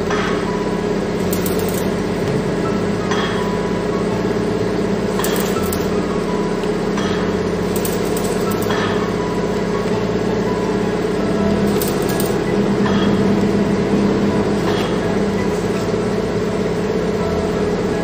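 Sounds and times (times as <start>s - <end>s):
loud machine hum: 0.0s - 18.0s.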